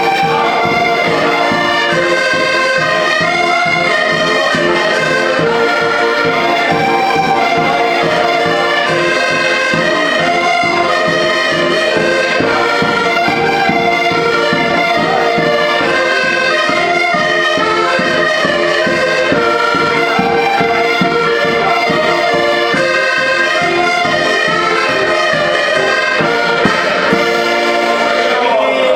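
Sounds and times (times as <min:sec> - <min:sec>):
driving percussion beat: 0:00.0 - 0:28.6
accordion and brass melody: 0:00.0 - 0:28.9.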